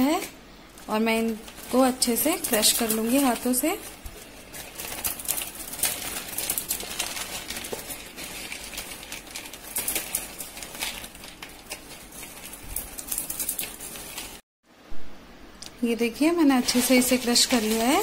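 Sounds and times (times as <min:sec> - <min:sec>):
fried noodles crackling being crushed: 0:00.2 - 0:14.4, 0:16.3 - 0:18.0.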